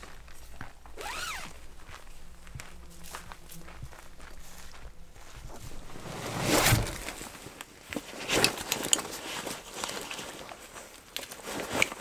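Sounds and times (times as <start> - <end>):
backpack and clothing rustling: 0.0 - 12.0.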